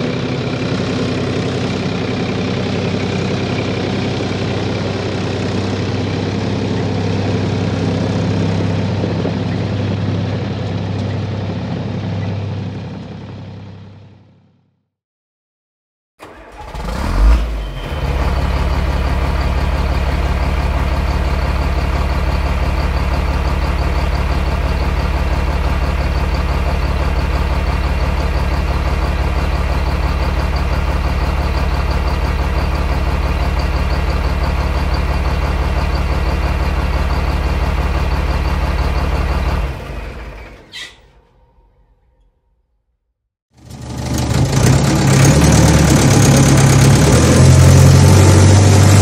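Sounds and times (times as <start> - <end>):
large engine running: 0.0 - 14.6, 16.2 - 41.5, 43.5 - 49.0.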